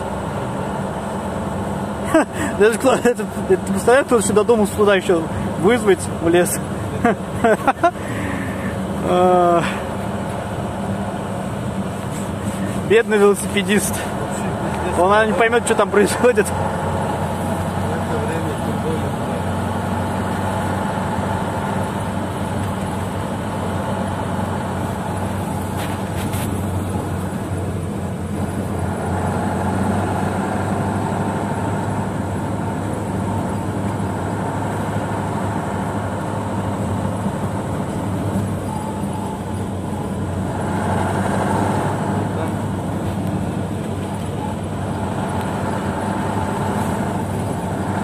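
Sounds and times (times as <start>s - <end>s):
road noise: 0.0s - 48.0s
truck engine drone: 0.0s - 48.0s.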